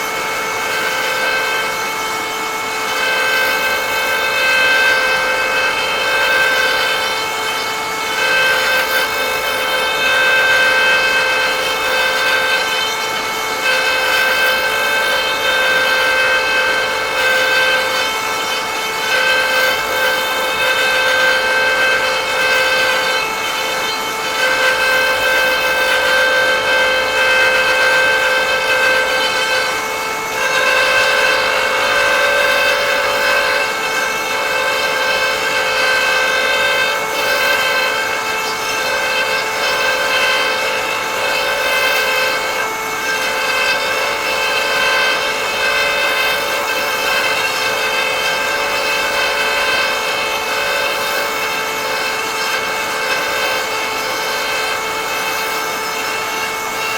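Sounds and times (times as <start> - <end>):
cutter cutting wood threads: 0.0 - 56.9
cutter motor whining: 0.0 - 56.9.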